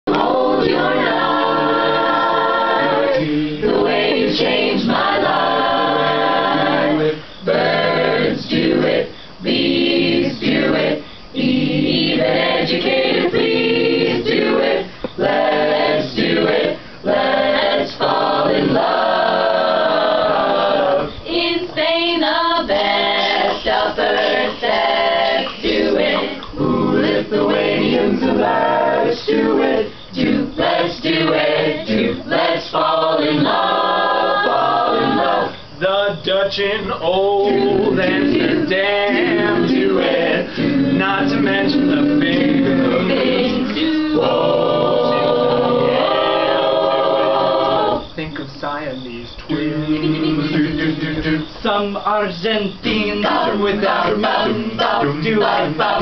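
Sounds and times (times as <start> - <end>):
a cappella group singing in harmony: 0.0 - 56.0.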